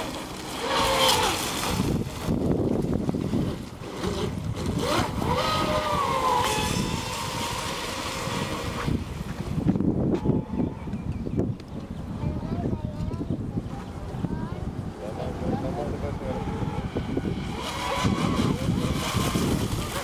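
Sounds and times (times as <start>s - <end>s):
speedboat motor whine: 0.0s - 20.0s
wind rumble on microphone: 0.6s - 20.0s.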